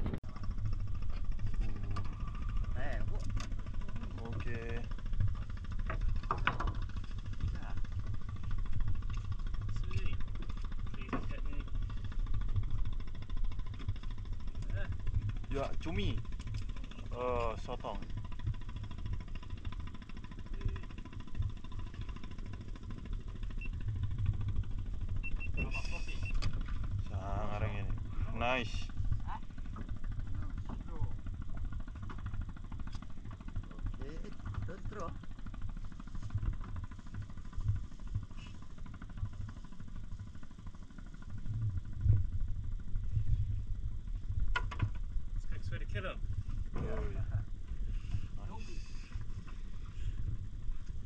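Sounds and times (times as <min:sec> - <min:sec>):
boat engine idling: 0:00.0 - 0:51.0.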